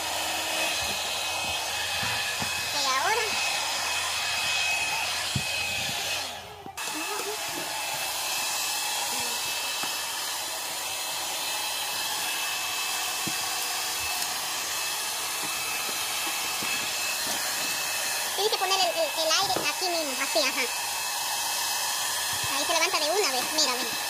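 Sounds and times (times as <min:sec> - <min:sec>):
hair dryer blowing: 0:00.0 - 0:24.0.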